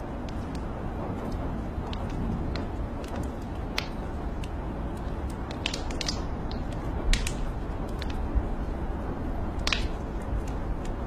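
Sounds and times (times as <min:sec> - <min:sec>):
fire popping: 0:00.0 - 0:11.0
rain hissing: 0:00.0 - 0:11.0
wood fire crackling: 0:00.0 - 0:11.0.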